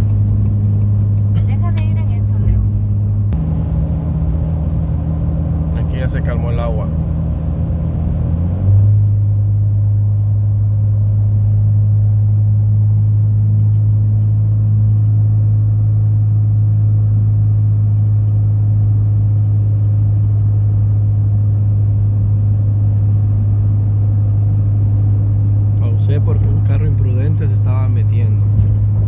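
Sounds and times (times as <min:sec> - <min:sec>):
car interior road drone: 0:00.0 - 0:29.0.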